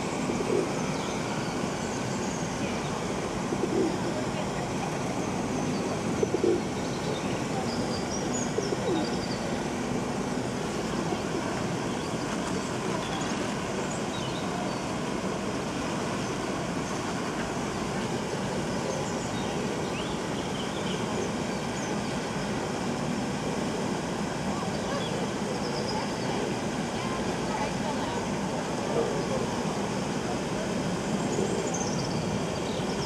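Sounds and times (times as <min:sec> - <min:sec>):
steady rushing outdoor noise: 0:00.0 - 0:33.0.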